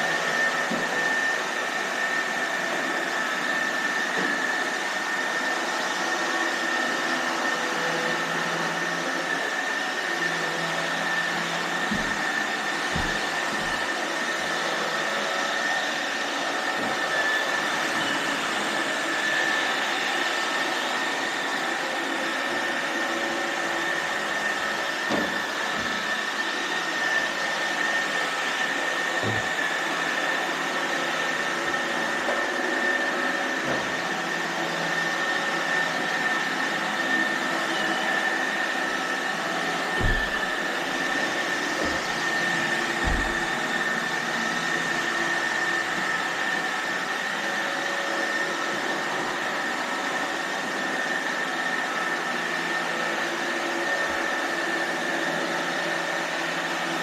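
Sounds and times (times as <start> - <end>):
robot vacuum whirring: 0.0 - 57.0.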